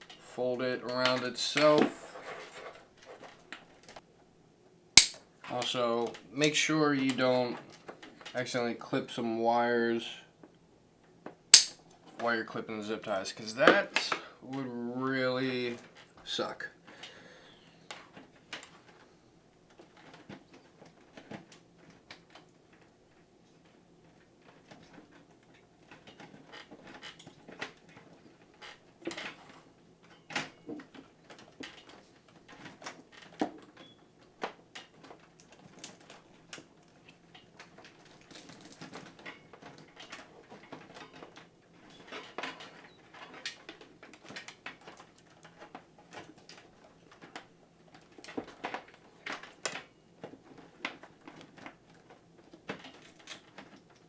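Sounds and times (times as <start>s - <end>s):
cables and zip ties rustling: 0.0s - 4.0s, 11.5s - 54.0s.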